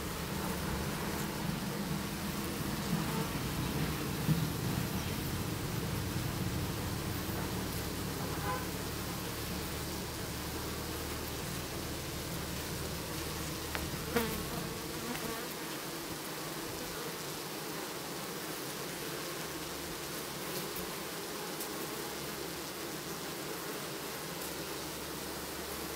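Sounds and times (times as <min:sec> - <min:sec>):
honeybees buzzing: 0:00.0 - 0:25.9.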